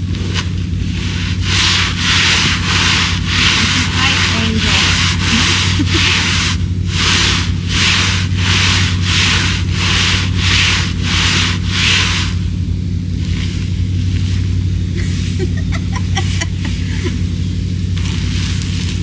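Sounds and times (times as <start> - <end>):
footsteps scraping through icy snow: 0.0 - 19.0.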